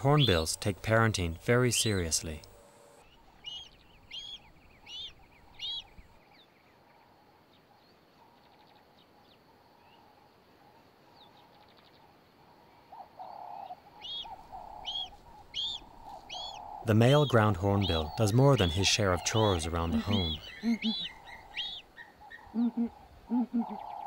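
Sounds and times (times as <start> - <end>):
bird chirping: 0.0 - 10.2, 10.8 - 24.0.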